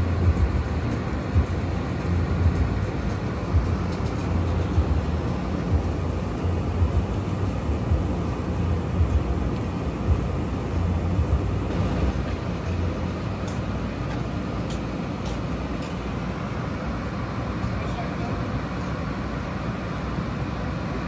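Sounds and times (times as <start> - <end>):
train engine rumbling: 0.0 - 21.0.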